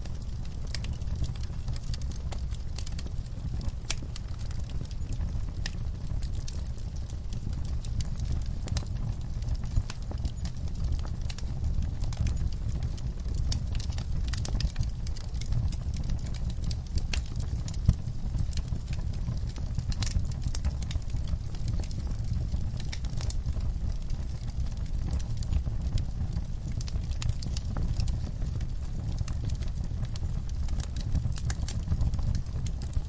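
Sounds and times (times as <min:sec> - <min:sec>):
fire popping and snapping: 0:00.0 - 0:33.0
wood fire crackling: 0:00.0 - 0:33.0.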